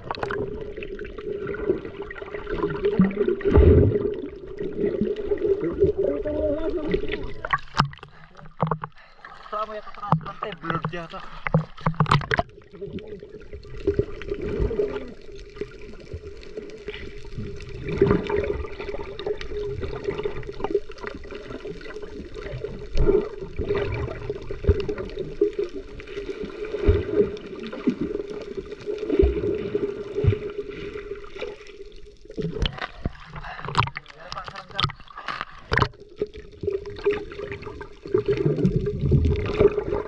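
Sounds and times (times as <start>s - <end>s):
water gurgling and sloshing: 0.0s - 40.0s.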